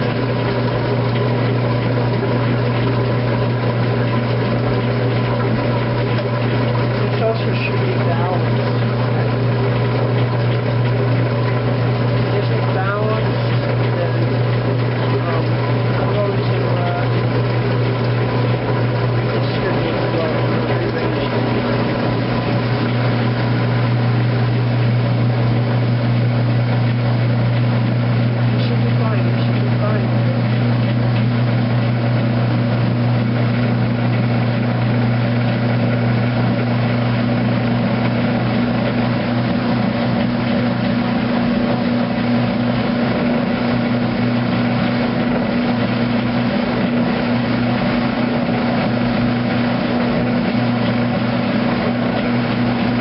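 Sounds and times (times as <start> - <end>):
washing machine motor humming: 0.0 - 53.0.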